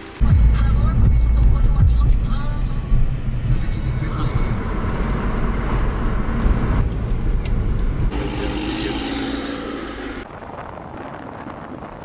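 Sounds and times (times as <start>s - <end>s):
car engine low rumble: 0.2s - 10.3s.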